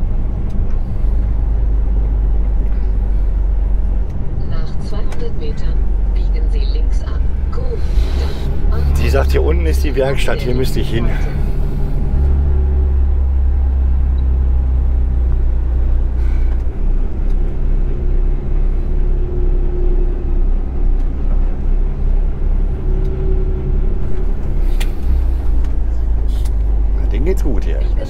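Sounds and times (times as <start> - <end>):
truck engine low rumble: 0.0 - 28.0.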